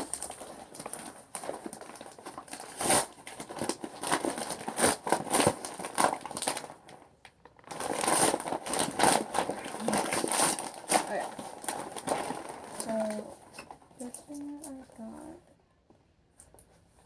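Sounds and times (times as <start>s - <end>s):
packaging crinkling and rustling: 0.0s - 15.1s.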